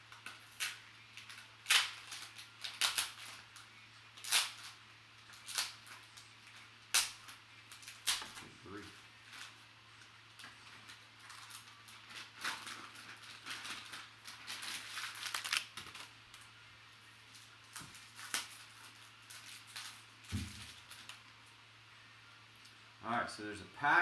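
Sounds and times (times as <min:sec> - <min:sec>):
plastic wrap and cardboard crinkling: 0:00.0 - 0:21.6
low steady hum: 0:00.0 - 0:24.0.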